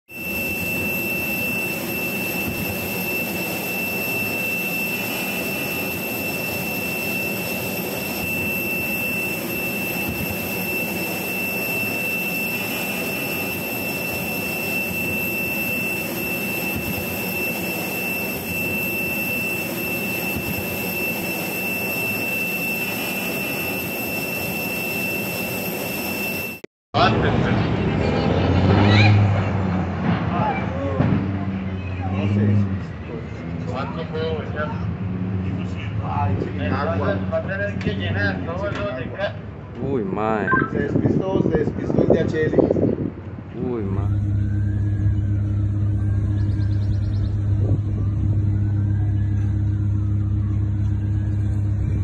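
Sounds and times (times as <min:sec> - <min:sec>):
jet engine rumbling with high whine: 0:00.1 - 0:52.0.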